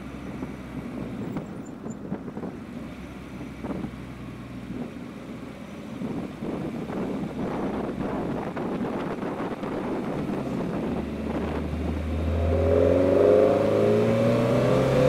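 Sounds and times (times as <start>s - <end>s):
car engine at low speed: 0.0s - 15.0s.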